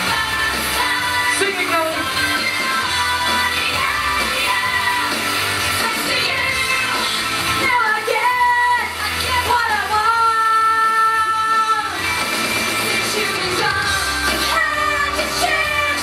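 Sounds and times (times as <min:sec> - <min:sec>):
woman singing into microphone: 0:00.0 - 0:12.1, 0:12.8 - 0:16.0
amplified pop backing music: 0:00.0 - 0:16.0.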